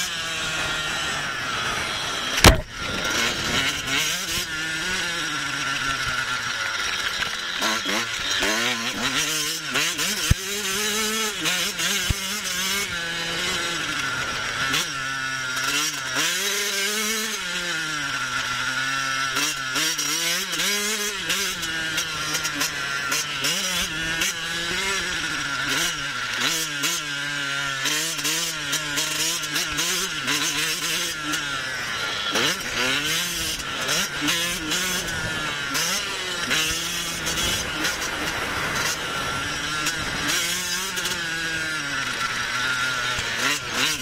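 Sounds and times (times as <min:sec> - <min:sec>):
two-stroke motorbike revving: 0:00.0 - 0:44.0.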